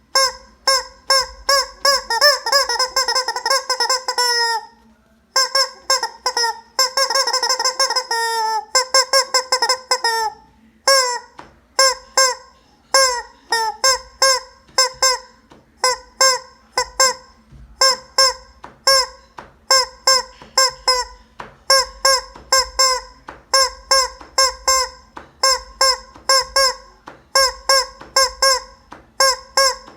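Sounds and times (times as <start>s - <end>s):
rubber chicken toy squawking: 0.1s - 4.8s, 5.4s - 29.9s.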